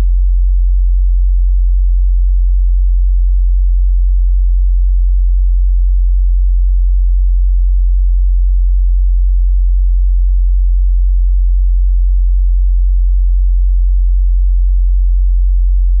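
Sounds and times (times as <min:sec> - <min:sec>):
deep bass sine tone: 0:00.0 - 0:16.0.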